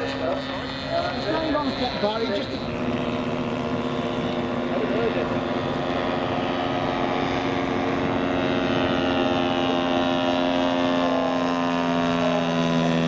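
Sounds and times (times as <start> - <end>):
model airplane engine: 0.0 - 13.0.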